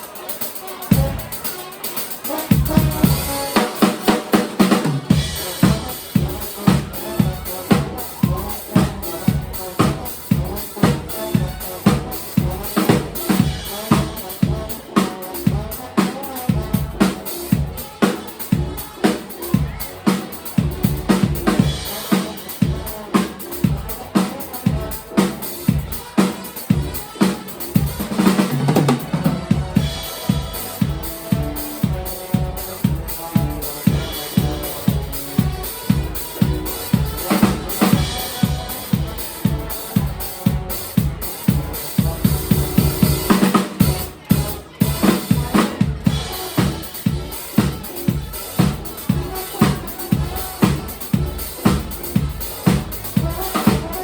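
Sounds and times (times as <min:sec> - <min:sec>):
drum fill: 0:00.0 - 0:54.0
live band music: 0:00.0 - 0:54.0.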